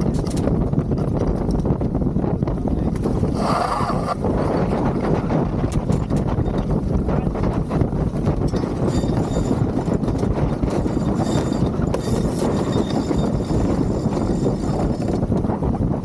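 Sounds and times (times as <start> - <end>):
wind on the microphone: 0.0 - 16.0.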